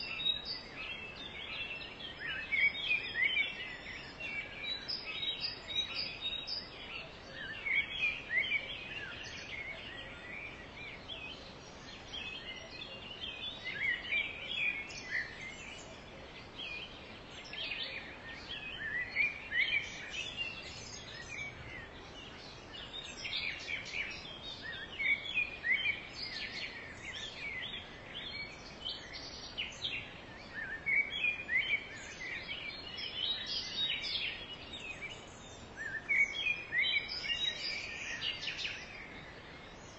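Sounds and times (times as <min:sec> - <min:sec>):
birds chirping and calling: 0:00.0 - 0:39.9
faint steady hiss: 0:00.0 - 0:39.9.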